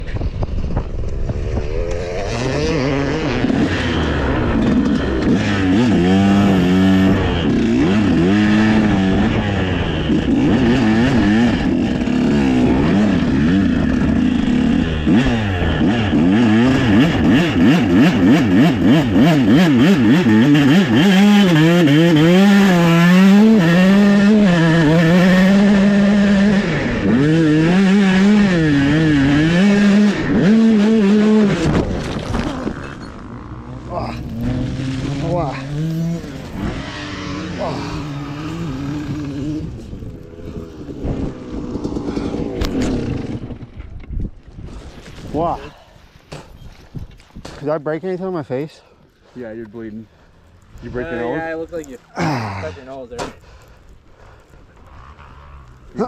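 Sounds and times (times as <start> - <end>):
dirt bike engine revving: 0.5 - 44.1, 49.8 - 56.0.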